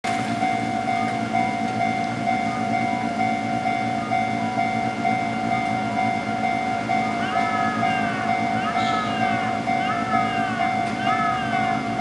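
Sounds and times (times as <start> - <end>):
level crossing alarm ding: 0.4 - 12.0.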